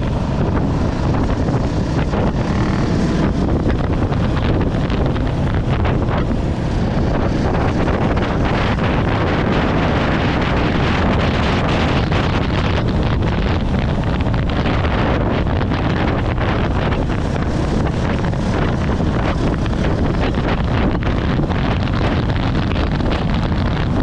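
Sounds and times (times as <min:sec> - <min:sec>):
vehicle running noise: 0:00.0 - 0:24.0
wind buffeting microphone: 0:00.0 - 0:24.0.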